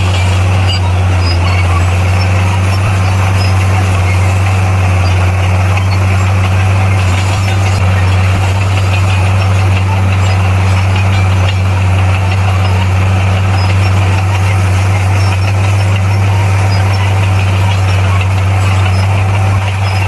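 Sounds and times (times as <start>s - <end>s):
diesel engine drone and clatter: 0.0s - 20.0s.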